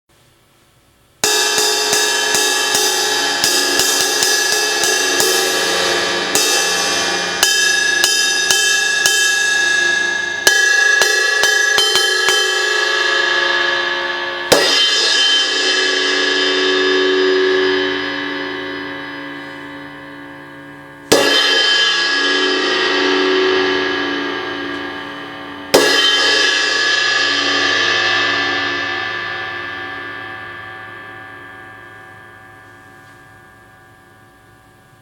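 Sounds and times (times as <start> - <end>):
crash cymbal struck with a stick: 1.2 - 35.0.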